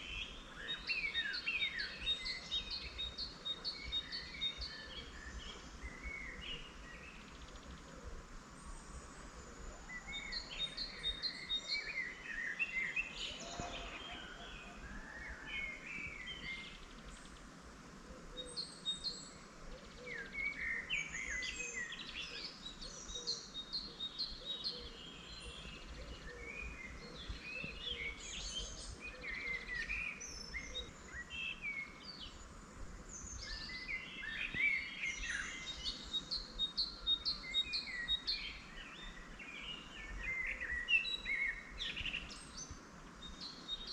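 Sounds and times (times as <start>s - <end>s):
songbirds singing and calling: 0.0s - 43.9s.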